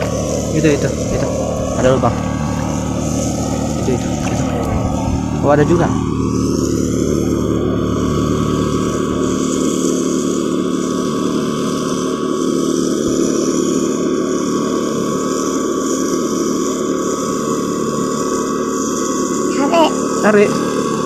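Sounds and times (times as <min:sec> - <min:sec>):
machine engine running: 0:00.0 - 0:21.0.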